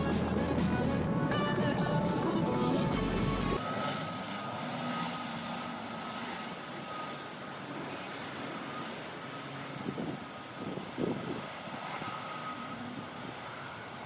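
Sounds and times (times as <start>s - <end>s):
aircraft engine rushing: 0.0s - 14.0s
high engine whine: 0.0s - 14.0s.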